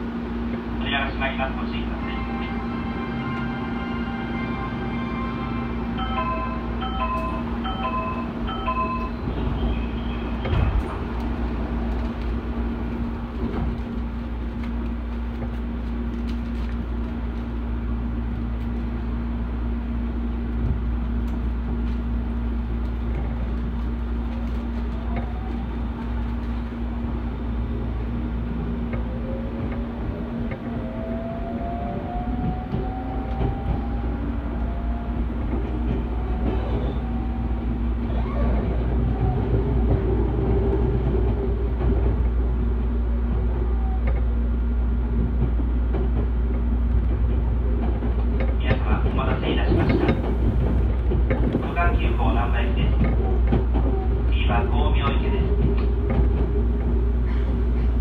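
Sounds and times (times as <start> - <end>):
train interior low hum: 0.0 - 58.0.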